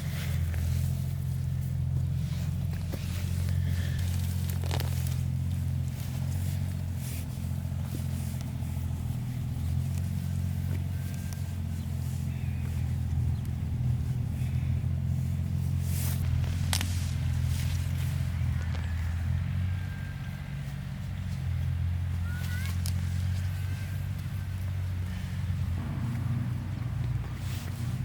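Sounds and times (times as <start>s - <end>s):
motor engine running: 0.0s - 28.0s
rustles and scrapes: 0.0s - 28.0s.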